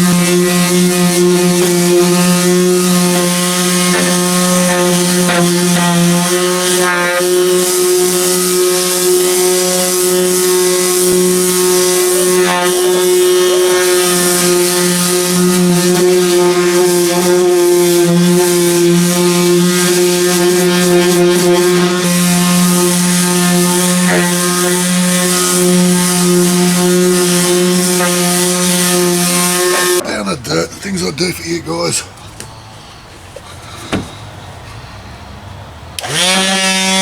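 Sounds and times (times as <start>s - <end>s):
power sander on metal panel: 0.0s - 31.8s, 36.0s - 37.0s.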